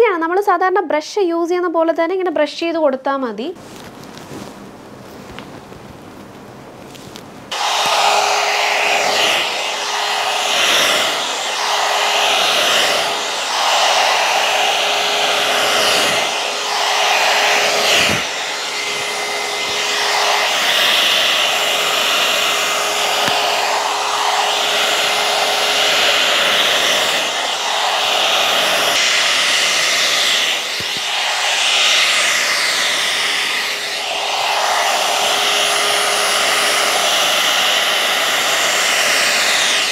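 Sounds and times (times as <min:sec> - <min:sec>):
hot-air brush blowing air: 0:06.8 - 0:39.9.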